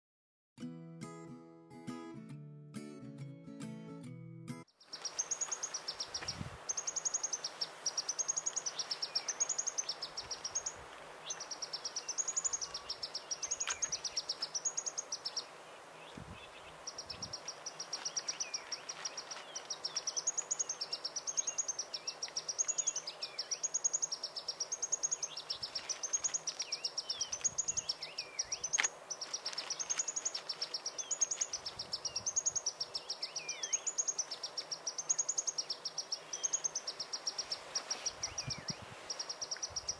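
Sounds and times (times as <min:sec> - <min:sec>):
insects buzzing pulsing: 0:04.8 - 0:39.9.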